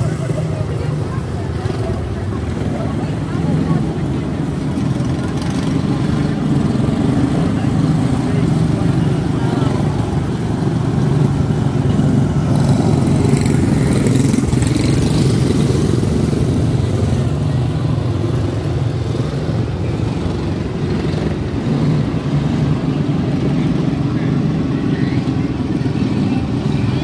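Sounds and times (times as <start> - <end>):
small race car engines running: 0.0 - 27.0.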